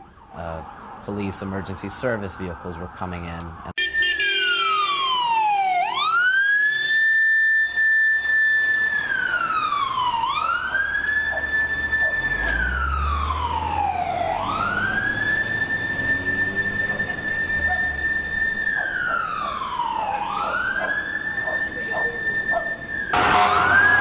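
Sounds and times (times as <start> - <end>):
emergency siren wailing: 0.0 - 24.0.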